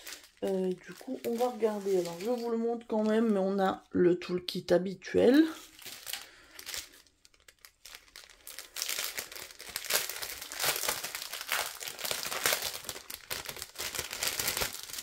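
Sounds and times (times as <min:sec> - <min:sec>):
plastic bags crinkling: 0:00.0 - 0:03.5, 0:05.3 - 0:15.0.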